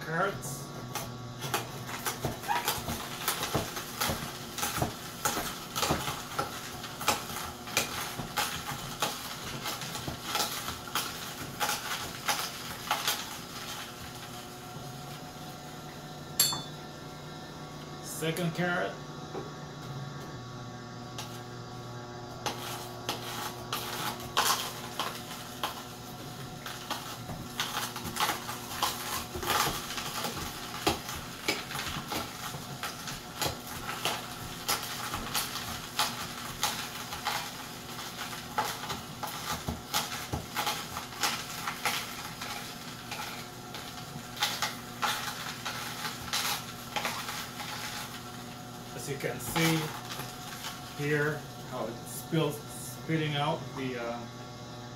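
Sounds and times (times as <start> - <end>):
juicer motor hum: 0.0 - 54.9.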